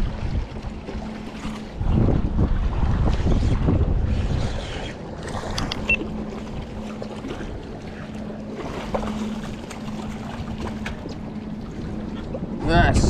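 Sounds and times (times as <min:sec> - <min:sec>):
water lapping against boat: 0:00.0 - 0:13.0
wind on microphone: 0:00.0 - 0:13.0.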